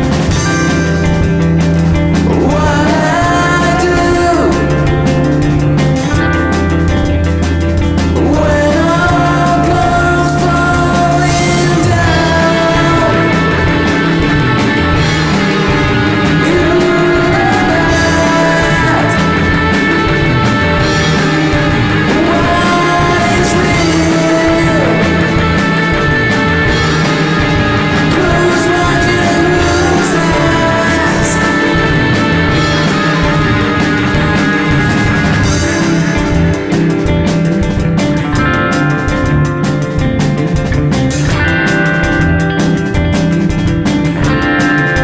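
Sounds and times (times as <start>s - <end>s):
alternative rock band playing: 0.0s - 45.0s
gliding guitar line: 0.0s - 45.0s.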